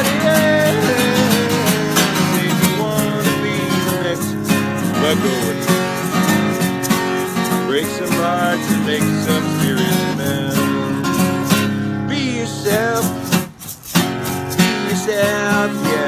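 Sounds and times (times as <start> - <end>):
man singing: 0.0 - 13.5, 14.5 - 16.0
acoustic guitar strumming: 0.0 - 16.0.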